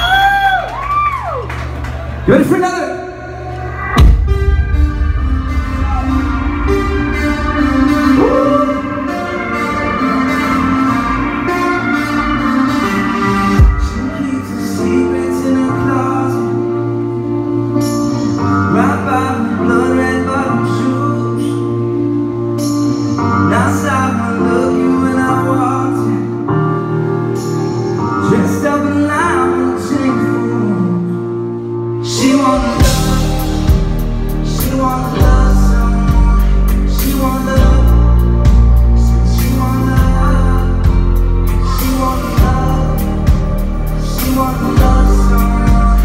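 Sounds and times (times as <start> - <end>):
band playing sustained chords: 1.5 - 46.0
person singing: 5.6 - 46.0.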